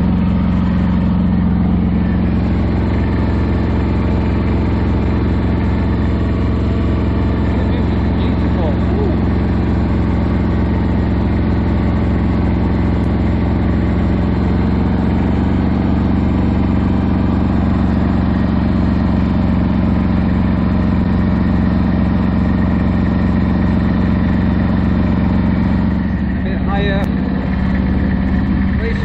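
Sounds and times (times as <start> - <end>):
tractor engine running steadily: 0.0 - 29.0.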